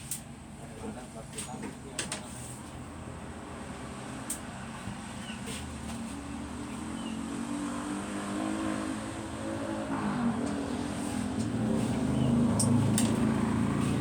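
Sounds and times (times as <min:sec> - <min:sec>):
vehicle engine humming: 0:02.5 - 0:14.0.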